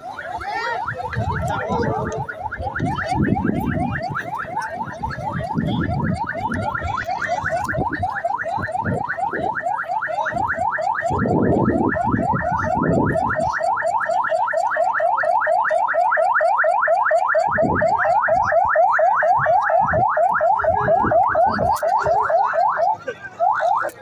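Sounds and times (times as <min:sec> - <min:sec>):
electronic siren yelping: 0:00.0 - 0:24.0.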